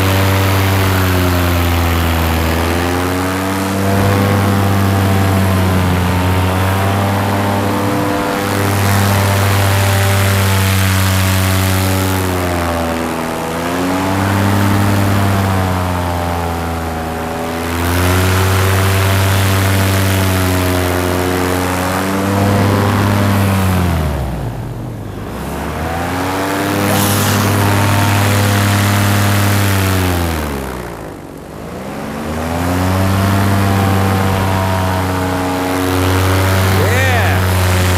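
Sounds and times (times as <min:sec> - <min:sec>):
paramotor engine and propeller: 0:00.0 - 0:37.9.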